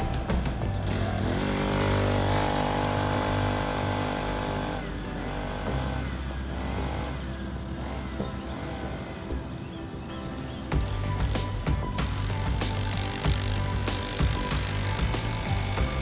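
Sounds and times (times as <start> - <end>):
small two-stroke engine revving: 0.0 - 9.8, 10.7 - 16.0.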